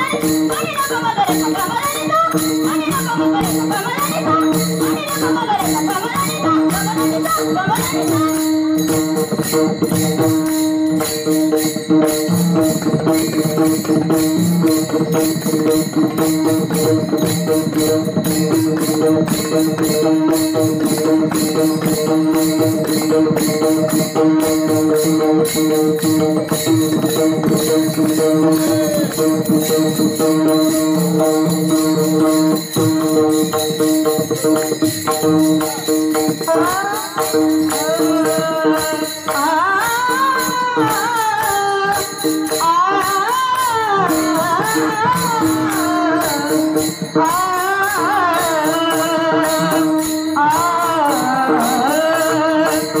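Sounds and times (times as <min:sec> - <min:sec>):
brass hand cymbals clashing: 0:01.5 - 0:53.0.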